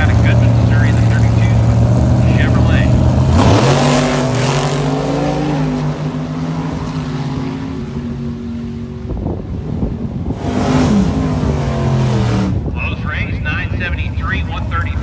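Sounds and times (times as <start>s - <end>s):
drag car engines at full throttle: 0.0s - 15.0s.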